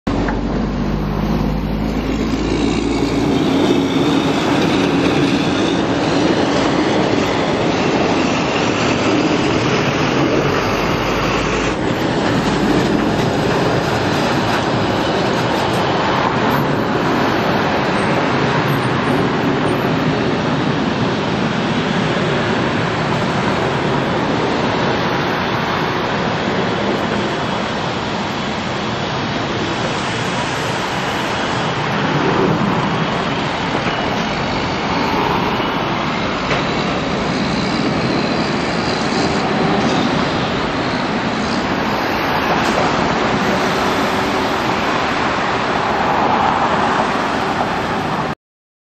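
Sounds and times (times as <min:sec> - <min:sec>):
passing traffic: 0:00.0 - 0:48.4.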